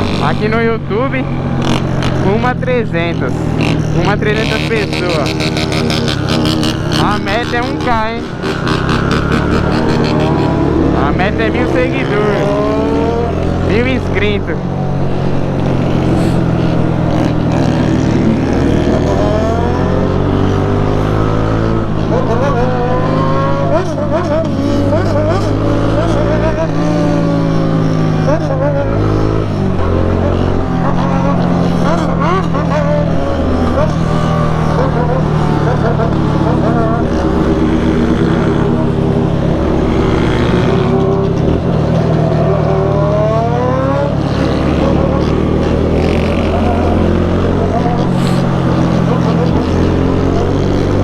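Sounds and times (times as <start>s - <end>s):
motorcycle engine accelerating: 0.0s - 51.0s
motorcycle engines running: 0.0s - 51.0s.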